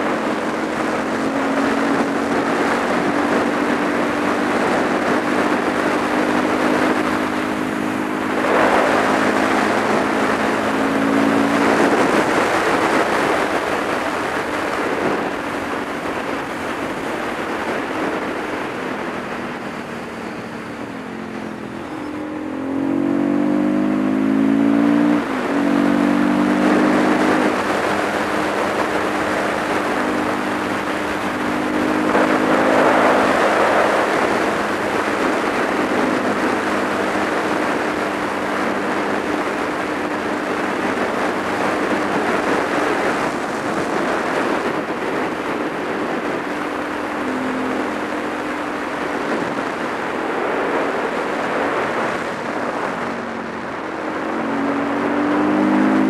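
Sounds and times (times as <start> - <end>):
motorcycle engine revving: 0.0 - 56.0
wind rushing over microphone: 0.0 - 56.0.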